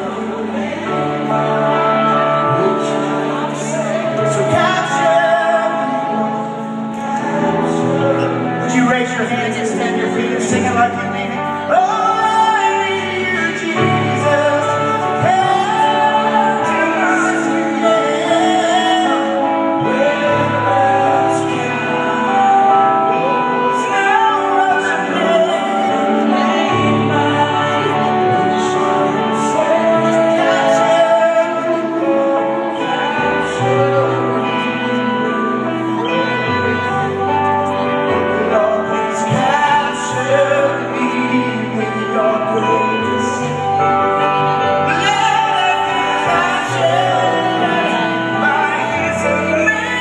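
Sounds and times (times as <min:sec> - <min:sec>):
live band music: 0:00.0 - 0:50.0
person singing: 0:00.0 - 0:50.0.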